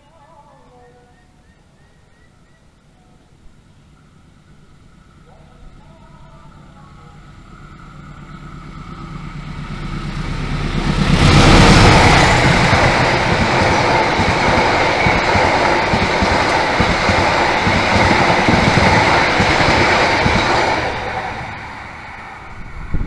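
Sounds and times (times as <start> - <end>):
diesel locomotive hum: 0.0 - 23.0
train wheels rushing on rail: 3.4 - 23.0.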